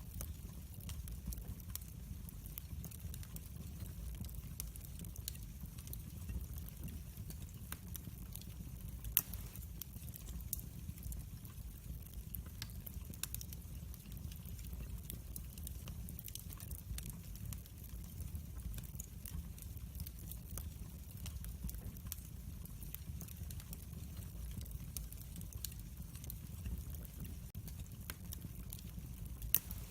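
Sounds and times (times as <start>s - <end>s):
low rumble of flames: 0.0s - 29.9s
sharp crack of fire: 0.0s - 29.9s
wood fire crackling: 0.0s - 29.9s.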